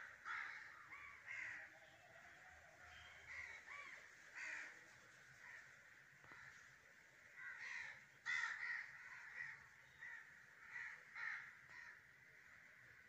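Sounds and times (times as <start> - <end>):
crows cawing: 0.0 - 13.0
distant crow calls: 0.0 - 13.0.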